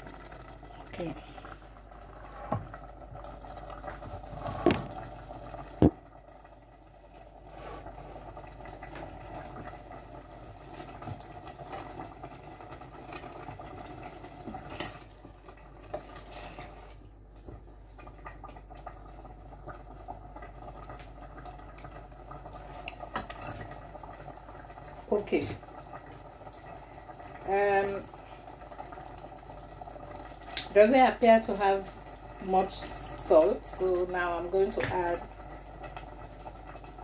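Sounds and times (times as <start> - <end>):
sauce bubbling in a pot: 0.0 - 37.0.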